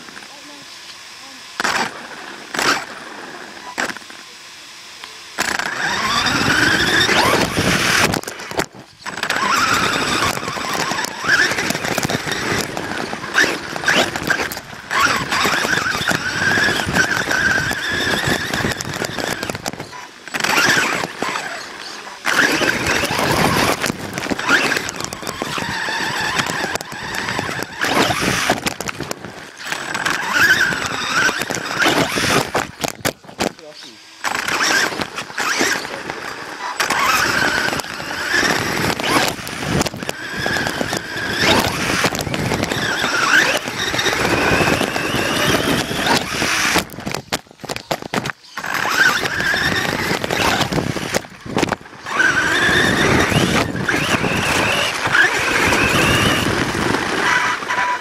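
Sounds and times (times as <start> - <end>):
toy car motor whine: 0.0 - 58.0
tyres crunching over dirt: 5.4 - 58.0.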